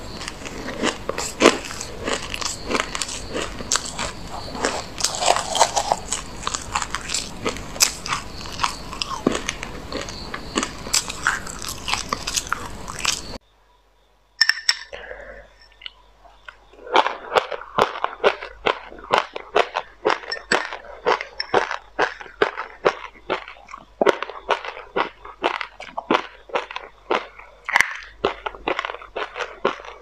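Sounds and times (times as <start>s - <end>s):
crunching sesame seeds: 0.0s - 13.4s, 16.4s - 30.0s.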